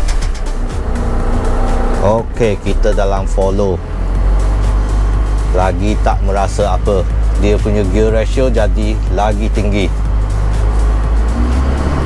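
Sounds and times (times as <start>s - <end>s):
background music: 0.0s - 12.0s
diesel truck engine drone: 0.0s - 12.0s.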